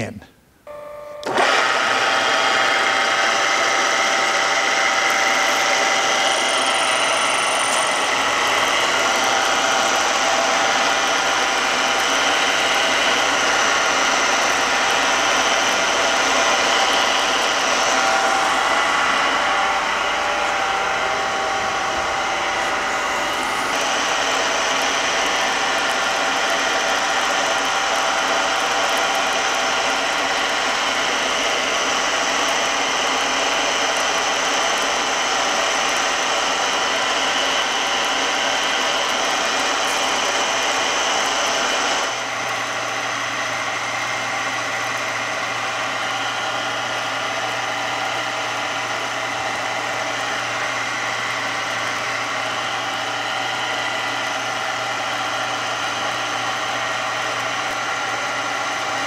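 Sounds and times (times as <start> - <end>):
milling machine whining: 0.7 - 59.0.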